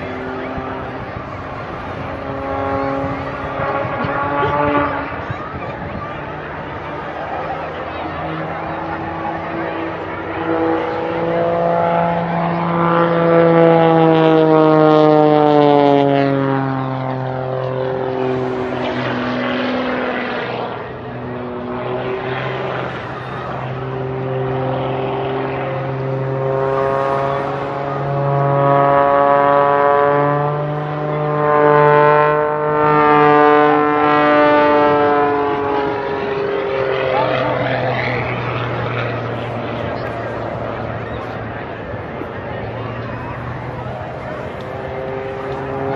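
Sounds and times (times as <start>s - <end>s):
propeller plane engine drone: 0.0s - 45.9s.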